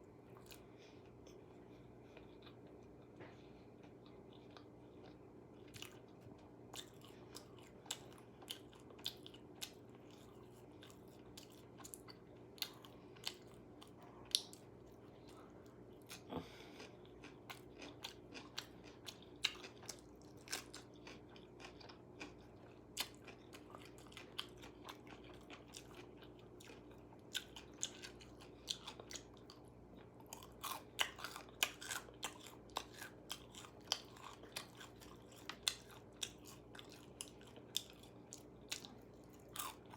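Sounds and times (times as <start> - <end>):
low steady hum: 0.0 - 39.9
person chewing crispy food: 0.3 - 39.9.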